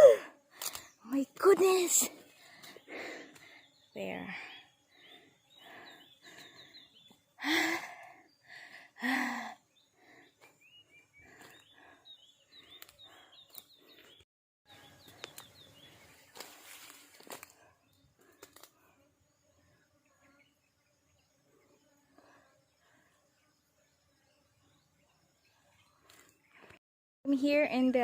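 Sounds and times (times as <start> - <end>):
small birds chirping: 0.5 - 26.8.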